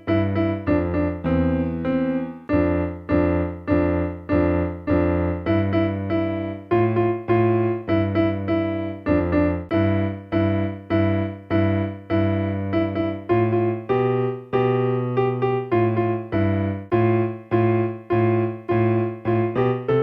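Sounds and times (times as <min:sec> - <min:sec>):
electronic keyboard piano notes: 0:00.0 - 0:20.0.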